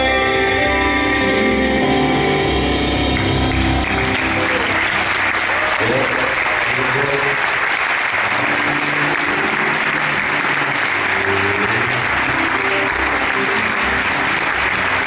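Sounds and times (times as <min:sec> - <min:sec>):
band playing low notes: 0:00.1 - 0:15.0
audience applauding: 0:02.9 - 0:15.0.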